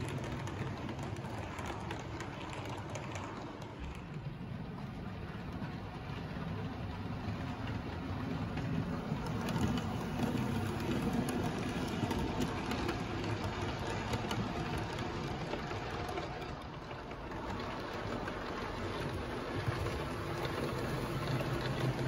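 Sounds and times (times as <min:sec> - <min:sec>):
wheels clicking over rail joints: 0:00.0 - 0:22.0.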